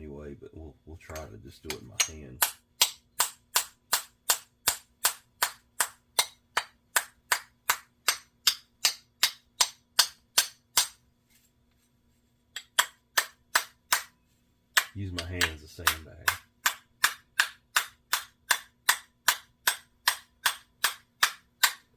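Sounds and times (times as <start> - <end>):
small hammer tapping metal: 1.1 - 11.0, 12.6 - 14.2, 14.8 - 21.9.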